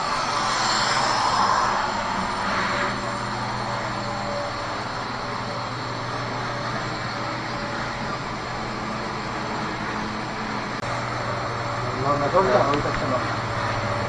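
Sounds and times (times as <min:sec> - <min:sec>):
cnc machine humming: 0:00.0 - 0:14.0.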